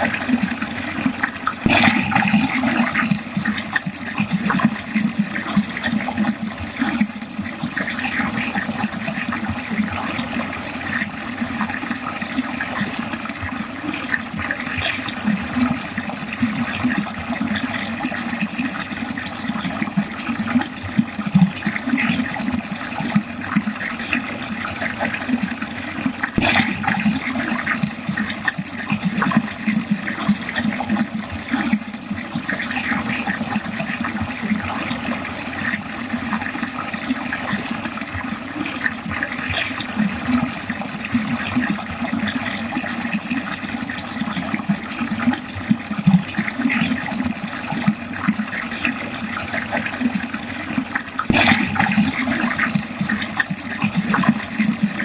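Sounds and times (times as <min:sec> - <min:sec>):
water gurgling down a drain: 0:00.0 - 0:55.0.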